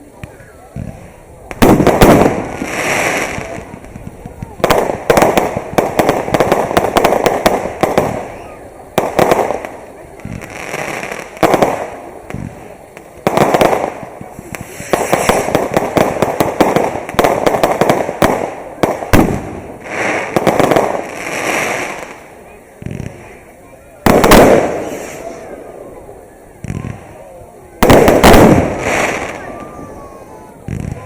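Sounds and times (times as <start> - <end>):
fireworks banging and crackling: 0.0 - 31.0.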